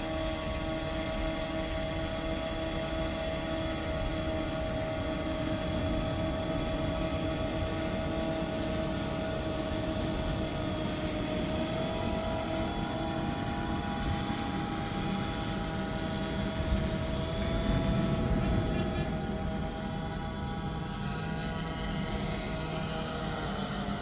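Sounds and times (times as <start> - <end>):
quadcopter propellers whining: 0.0 - 24.0.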